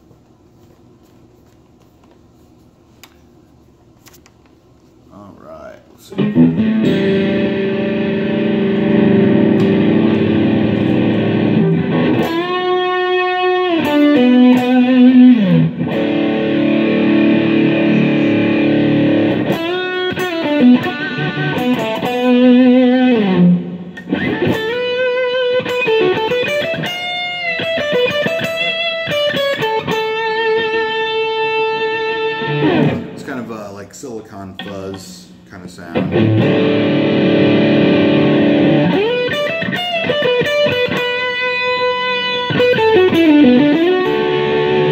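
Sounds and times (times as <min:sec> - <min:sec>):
overdriven electric guitar: 0:06.1 - 0:33.4, 0:35.9 - 0:44.9.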